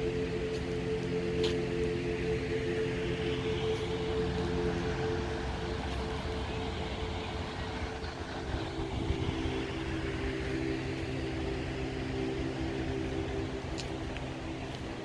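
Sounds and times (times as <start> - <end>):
constant hiss: 0.0 - 15.0
droning hum of held tones: 0.0 - 15.0.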